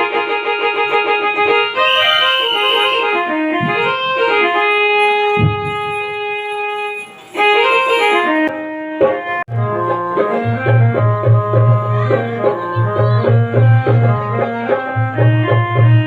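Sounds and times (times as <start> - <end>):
keyboard melody: 0.0 - 16.0.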